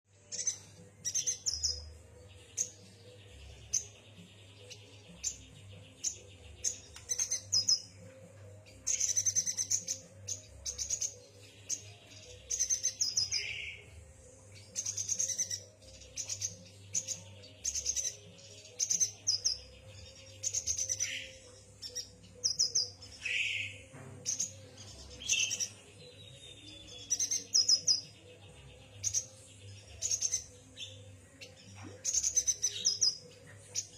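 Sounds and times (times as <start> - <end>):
bird chirping: 0.1 - 33.9.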